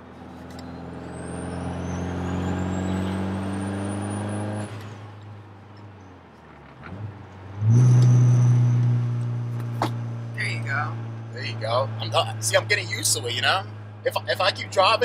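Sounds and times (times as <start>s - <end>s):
car engine accelerating: 0.0s - 5.4s, 6.4s - 15.0s
road noise: 0.0s - 15.0s.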